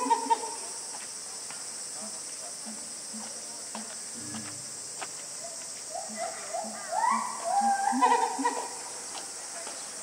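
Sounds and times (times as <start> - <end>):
cicadas droning: 0.0 - 10.0.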